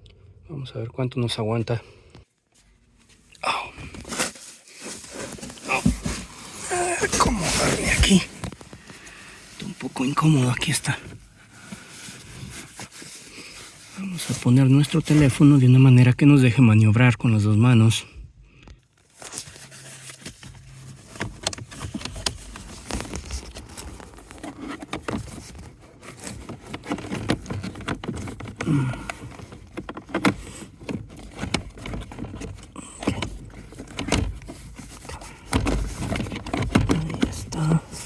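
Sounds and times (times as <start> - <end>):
plastic knocks and scrapes: 3.9 - 15.6, 19.1 - 38.0.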